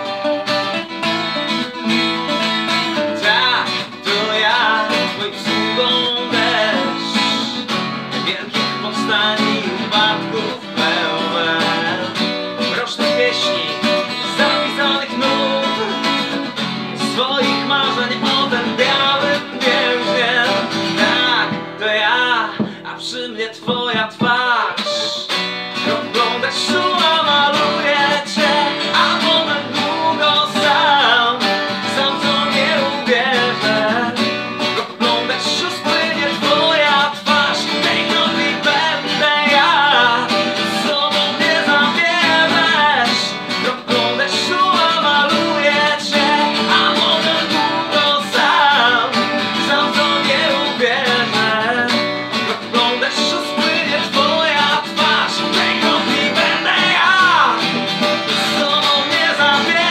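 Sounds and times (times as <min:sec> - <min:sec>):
acoustic guitars strummed: 0:00.0 - 0:59.9
man singing: 0:00.0 - 0:59.9.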